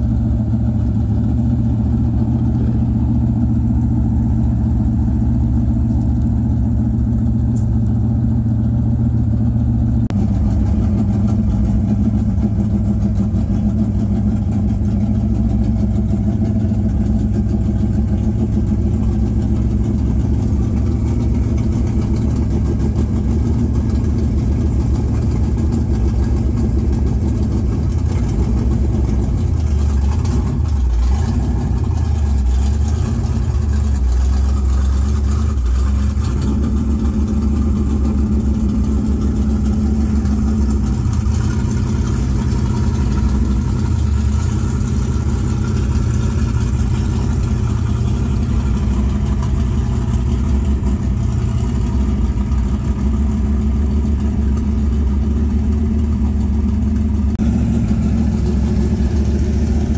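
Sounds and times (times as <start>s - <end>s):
stock car engine idling: 0.0s - 59.9s.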